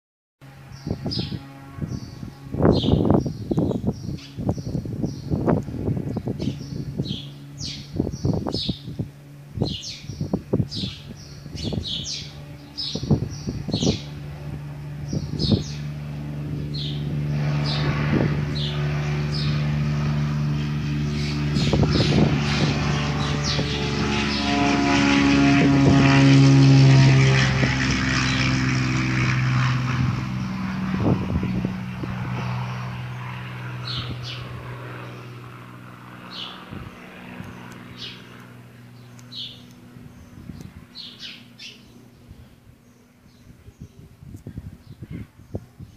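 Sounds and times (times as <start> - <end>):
propeller plane taking off: 0.4 - 45.9
birds chirping: 0.6 - 26.5, 27.1 - 45.9.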